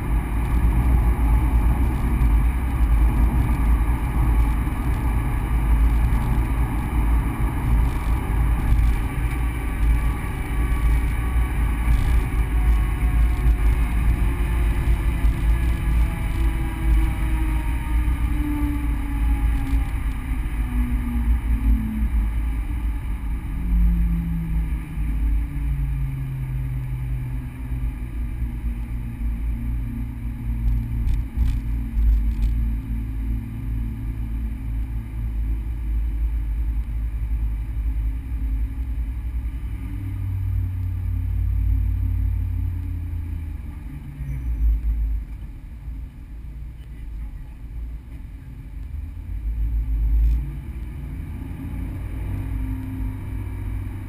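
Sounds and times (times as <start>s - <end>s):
car engine from inside cabin: 0.0s - 54.0s
road and wind noise rumble: 0.0s - 54.0s.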